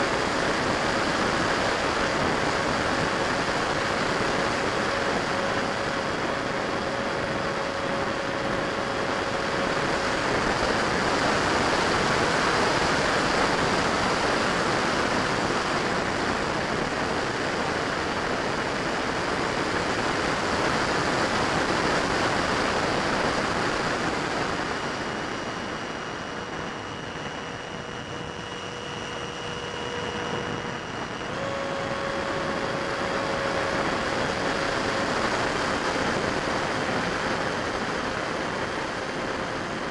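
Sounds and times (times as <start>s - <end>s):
thin fan whine: 0.0s - 39.9s.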